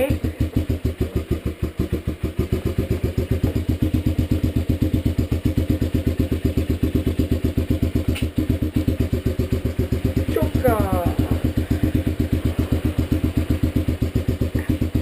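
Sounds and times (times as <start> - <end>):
mini bike engine idling: 0.0 - 15.0.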